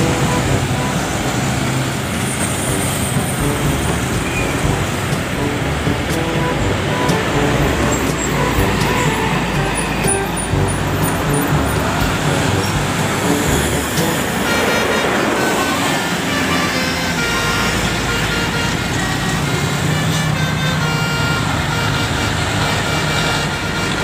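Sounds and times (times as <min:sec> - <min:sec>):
bus horn playing melody: 0:00.0 - 0:24.0
road traffic passing: 0:00.0 - 0:24.0.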